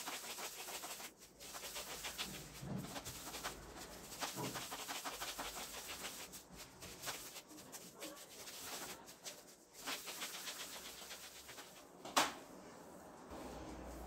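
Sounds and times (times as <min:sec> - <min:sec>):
hands rubbing dough on worktop: 0:00.0 - 0:12.0.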